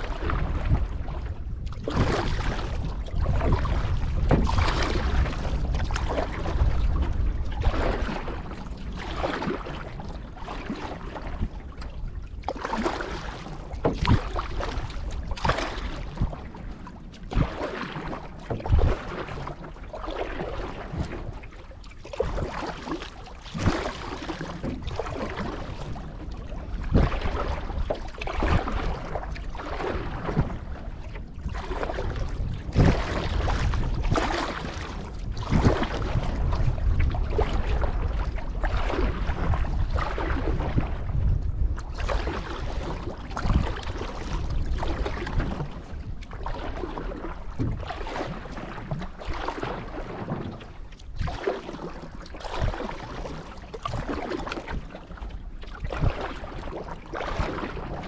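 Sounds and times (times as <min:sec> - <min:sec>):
paddle strokes splashing water: 0:00.0 - 0:58.0
wind rumble on microphone: 0:00.0 - 0:58.0.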